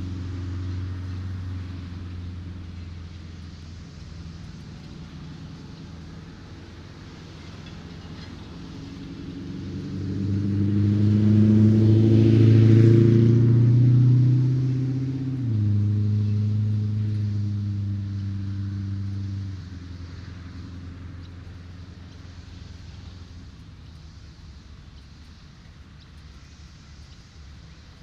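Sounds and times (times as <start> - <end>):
vehicle engine passing by: 0.0 - 25.4.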